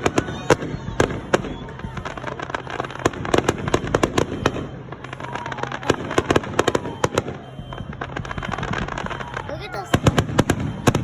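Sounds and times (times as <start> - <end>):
fireworks cracks and pops: 0.0 - 11.0.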